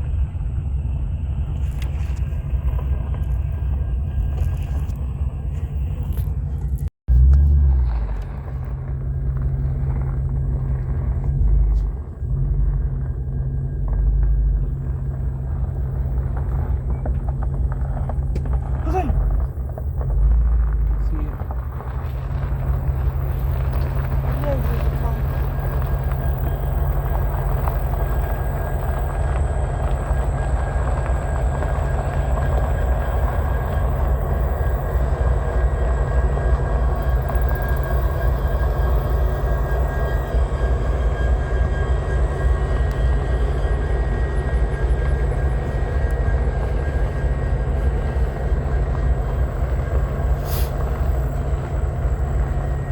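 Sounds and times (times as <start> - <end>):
diesel locomotive engines rumbling: 0.0 - 52.9.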